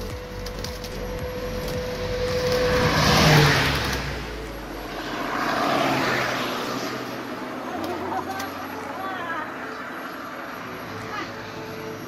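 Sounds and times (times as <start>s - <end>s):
road vehicles passing: 0.0s - 12.0s.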